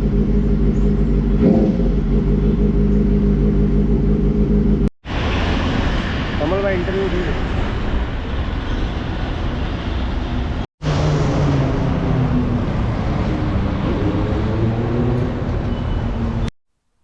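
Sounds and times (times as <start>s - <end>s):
road traffic engines: 0.0s - 16.5s.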